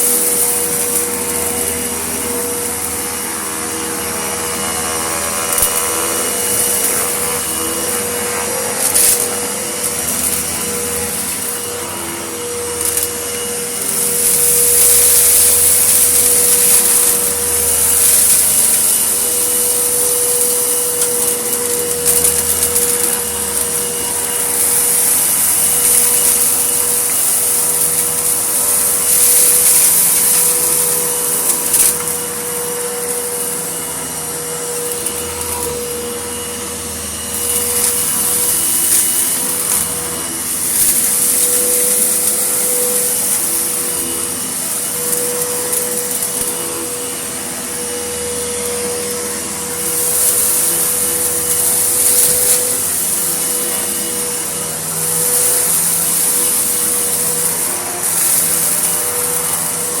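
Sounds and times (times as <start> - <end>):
vacuum cleaner running: 0.0 - 60.0.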